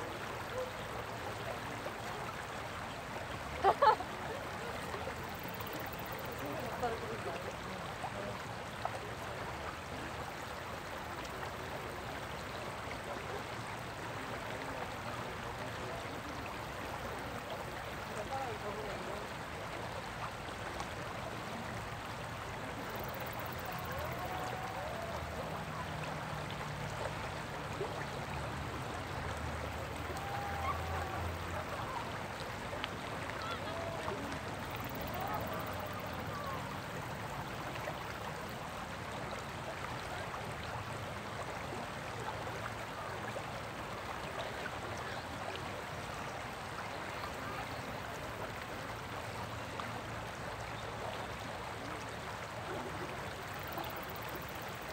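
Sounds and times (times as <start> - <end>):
water running over rocks: 0.0 - 54.9.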